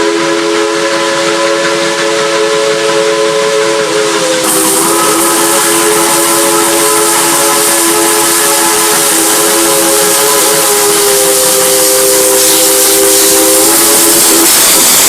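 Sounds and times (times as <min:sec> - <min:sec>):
hissing steam: 0:00.0 - 0:15.0
steam locomotive chime whistle: 0:00.0 - 0:15.0.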